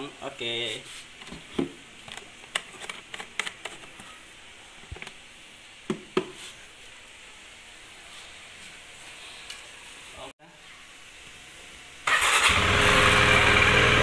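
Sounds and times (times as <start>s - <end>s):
faint steady hiss: 0.0s - 12.1s.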